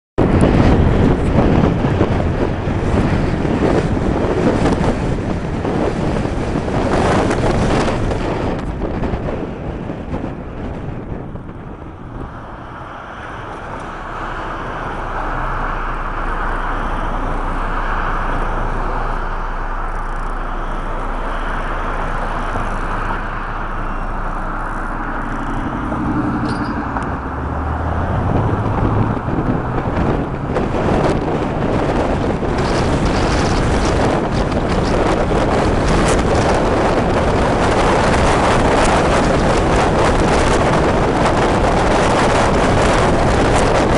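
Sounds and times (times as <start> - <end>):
car engine hum: 0.2 - 43.9
tyres rushing on road: 0.2 - 43.9
wind buffeting: 0.2 - 43.9.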